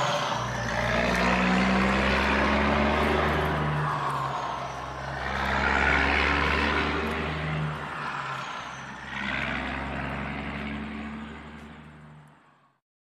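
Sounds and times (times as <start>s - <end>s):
truck engine humming: 0.0s - 12.6s.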